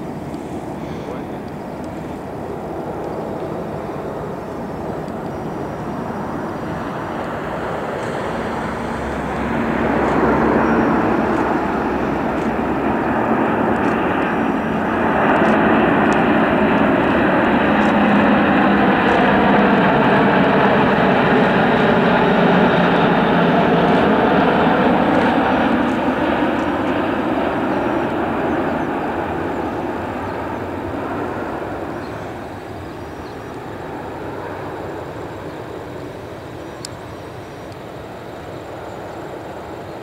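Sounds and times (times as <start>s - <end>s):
jet airliner roar overhead: 0.0s - 40.0s.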